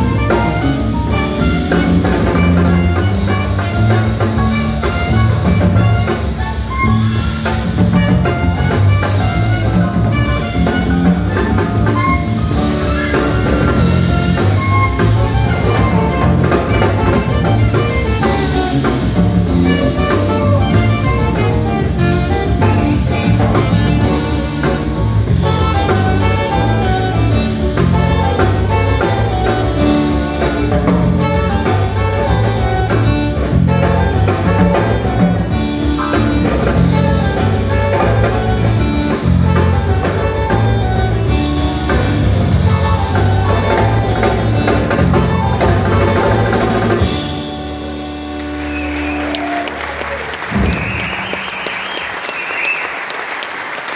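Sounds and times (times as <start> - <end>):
electric bass line: 0.0 - 49.3
drum kit and cymbals: 0.0 - 49.6
piano: 0.0 - 53.9
saxophone: 0.0 - 53.9.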